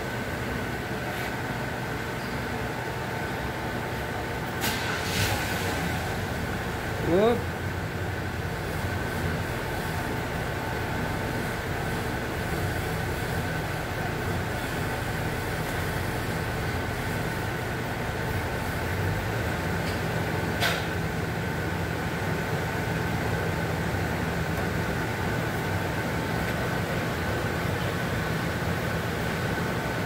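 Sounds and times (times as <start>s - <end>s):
steady machine hum: 5.6s - 30.0s.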